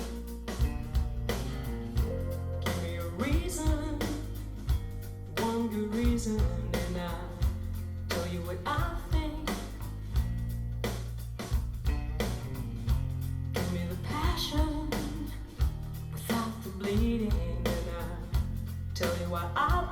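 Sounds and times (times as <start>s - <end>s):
rock-pop song through speakers: 0.0s - 19.9s.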